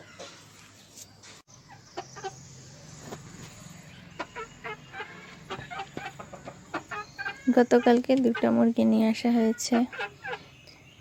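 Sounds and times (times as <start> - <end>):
chickens clucking: 1.2 - 11.0.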